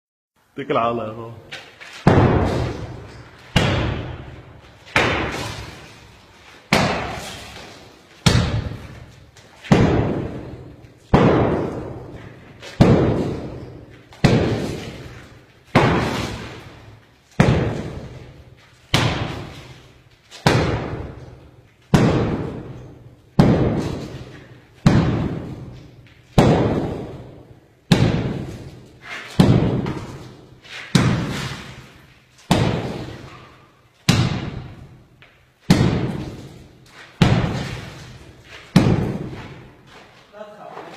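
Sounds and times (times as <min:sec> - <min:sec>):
sledgehammer thudding on concrete: 0:02.0 - 0:06.1, 0:06.7 - 0:35.0, 0:35.6 - 0:39.8.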